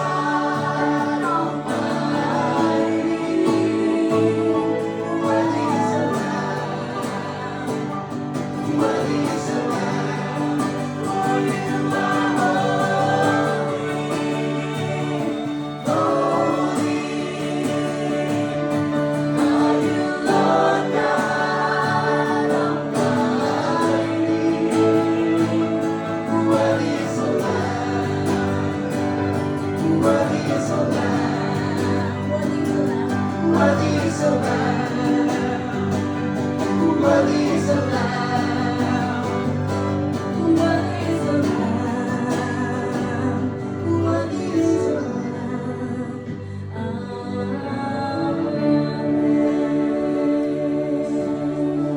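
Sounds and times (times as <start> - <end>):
acoustic guitar: 0.0 - 51.9
voices singing slow song: 0.0 - 51.9.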